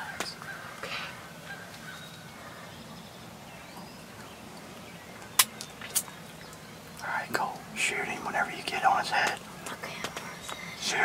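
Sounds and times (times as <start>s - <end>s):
faint bird calls: 0.0s - 11.0s
outdoor background hiss: 0.0s - 11.0s.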